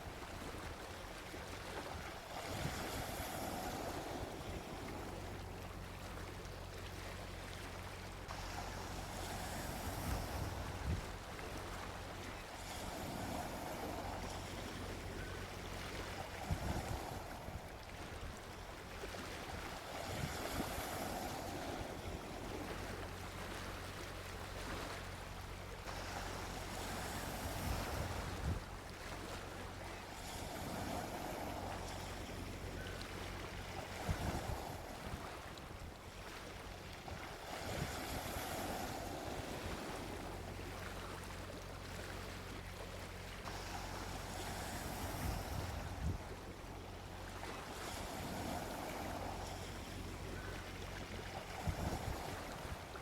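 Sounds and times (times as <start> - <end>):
low constant rumble: 0.0 - 53.0
ocean waves breaking on beach: 0.0 - 53.0.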